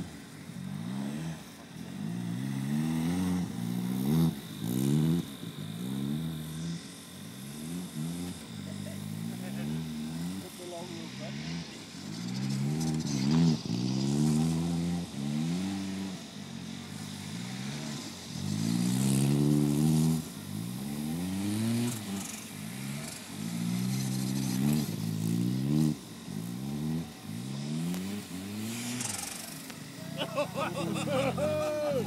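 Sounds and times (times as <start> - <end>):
car engine revving hard: 0.0 - 32.0.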